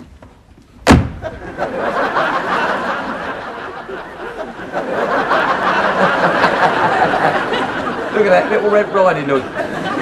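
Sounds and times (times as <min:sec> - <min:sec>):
audience laughing: 0:01.1 - 0:10.0.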